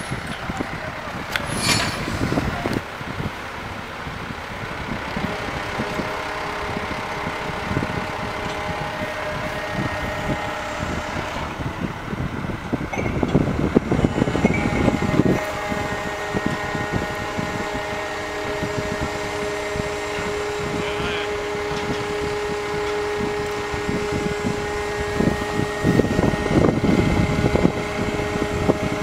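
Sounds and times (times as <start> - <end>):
machinery clattering: 0.0 - 2.9, 4.8 - 29.0
heavy machinery humming: 0.0 - 29.0.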